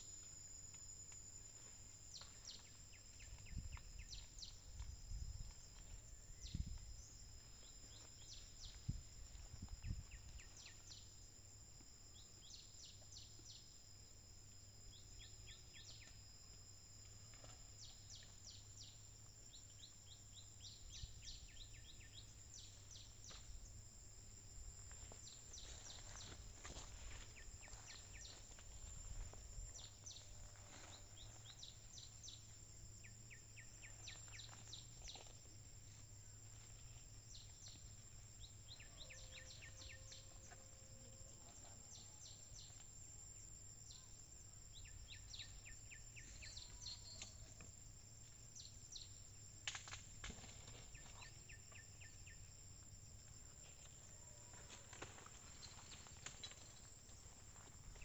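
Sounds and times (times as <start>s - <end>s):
steady high-pitched whine: 0.0s - 58.0s.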